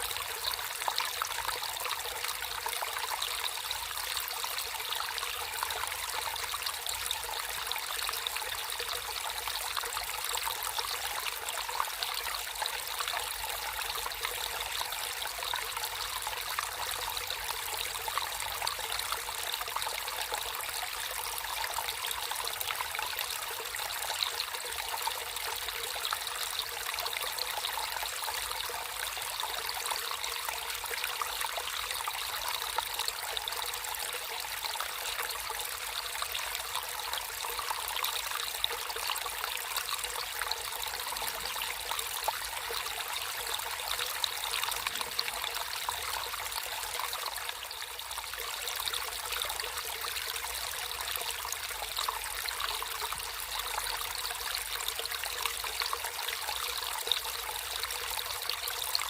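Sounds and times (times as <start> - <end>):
stream water flowing over stones: 0.0 - 59.0.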